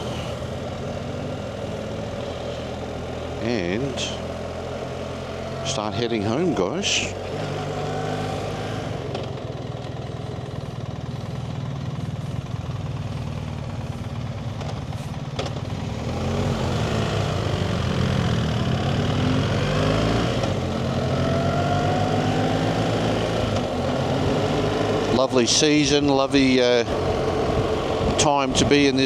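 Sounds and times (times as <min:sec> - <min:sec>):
motorcycle engine idling and accelerating: 0:00.0 - 0:29.0.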